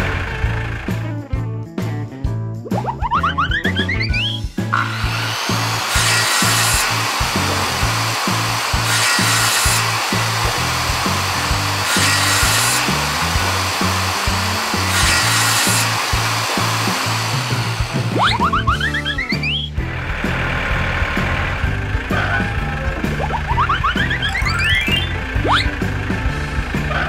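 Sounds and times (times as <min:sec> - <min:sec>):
table saw cutting wood: 0:00.0 - 0:01.0, 0:04.2 - 0:27.0
children's music with bass line: 0:00.0 - 0:27.0.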